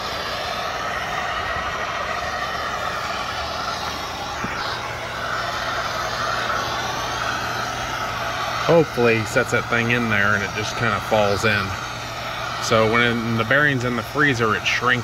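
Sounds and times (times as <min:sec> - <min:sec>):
gas torch hissing: 0:00.0 - 0:15.0.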